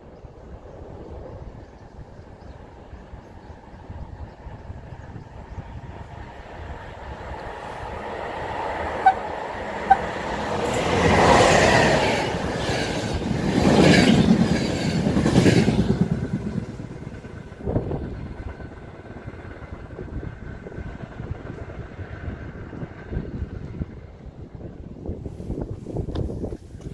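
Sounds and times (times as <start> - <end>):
passenger train passing at speed: 0.0 - 26.9.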